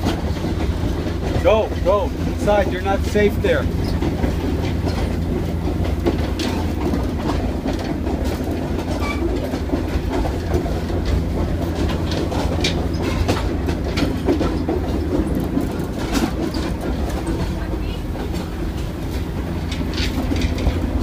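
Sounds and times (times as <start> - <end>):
clanks and rattles: 0.0 - 21.0
train wheels rumbling on track: 0.0 - 21.0.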